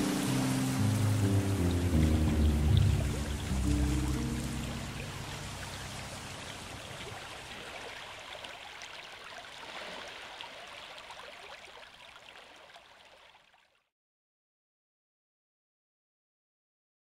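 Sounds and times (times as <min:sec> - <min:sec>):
stream babbling over pebbles: 0:00.0 - 0:13.8.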